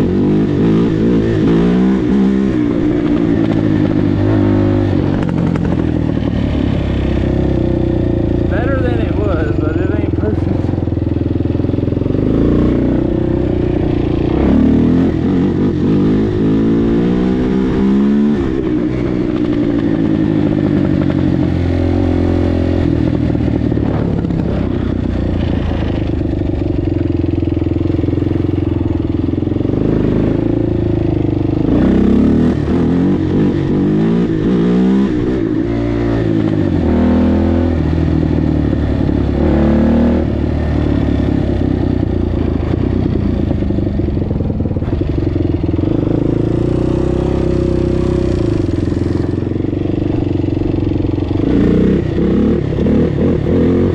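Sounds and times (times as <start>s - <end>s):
quad bike engine accelerating: 0.0s - 53.9s.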